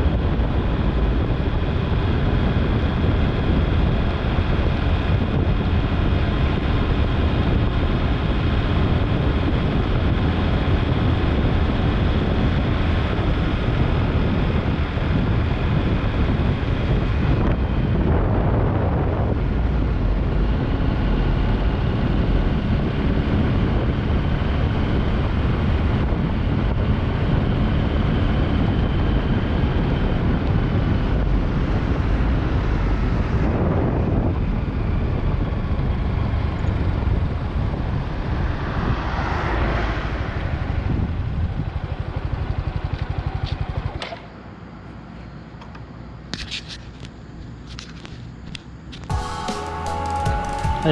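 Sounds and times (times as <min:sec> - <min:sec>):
wind on microphone: 0:00.0 - 0:43.9
vehicle engine: 0:00.0 - 0:45.2
road noise: 0:00.0 - 0:50.9.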